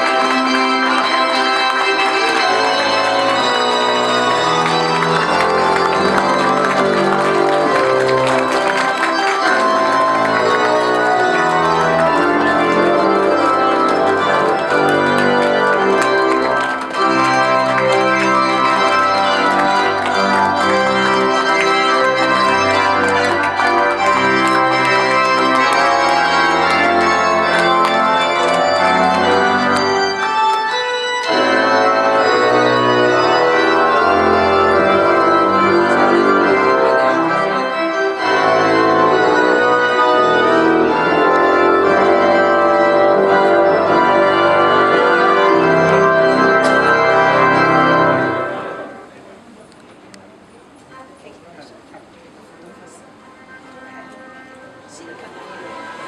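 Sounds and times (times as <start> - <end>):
organ playing held chords: 0.0 - 49.5.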